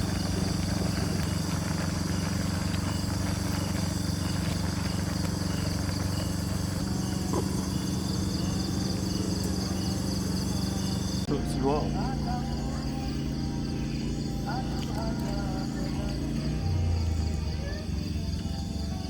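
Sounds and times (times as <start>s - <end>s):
insects chirping: 0.0s - 19.0s
low mechanical hum: 0.0s - 19.0s.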